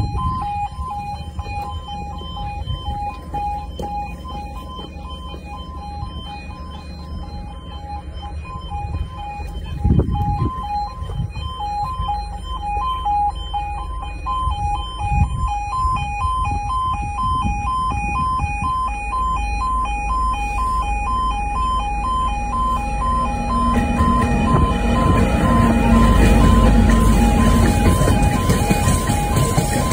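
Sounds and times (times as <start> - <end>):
low rumbling noise: 0.0 - 29.9
two-tone crossing alarm: 0.0 - 29.9.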